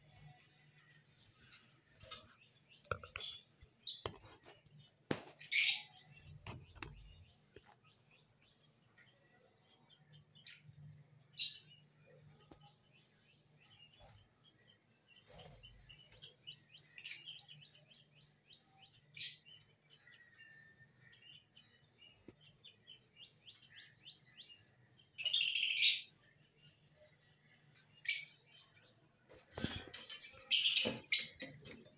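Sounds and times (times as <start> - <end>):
lovebirds chirping: 0.0 - 31.9.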